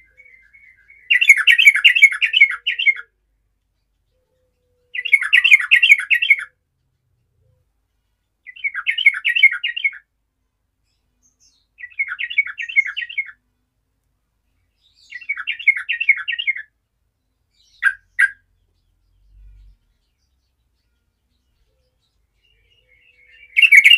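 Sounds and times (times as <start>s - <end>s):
bird singing warbled phrases: 0.0s - 10.1s, 10.8s - 13.5s, 14.4s - 23.9s.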